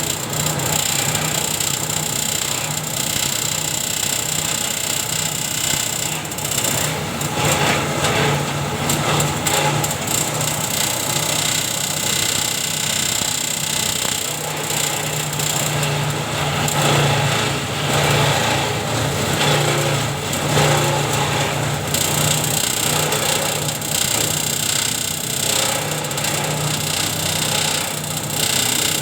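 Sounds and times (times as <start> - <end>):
chopper machine humming and whining: 0.0 - 29.0.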